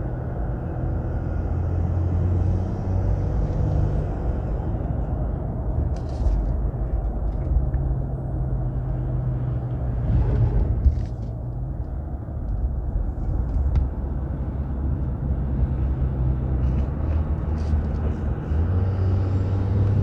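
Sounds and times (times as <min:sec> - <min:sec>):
diesel truck engine drone: 0:00.0 - 0:20.0
road rumble: 0:00.0 - 0:20.0.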